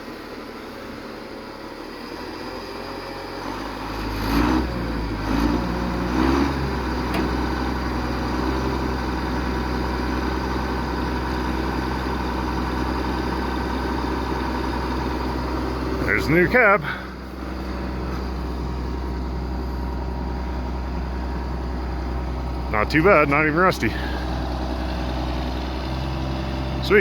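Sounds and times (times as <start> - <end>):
loader engine running: 0.0 - 27.0.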